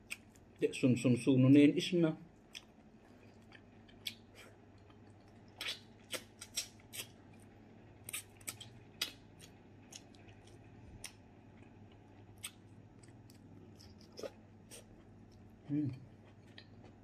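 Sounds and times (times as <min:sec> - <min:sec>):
person chewing with wet smacks: 0:00.0 - 0:00.6, 0:02.4 - 0:17.0.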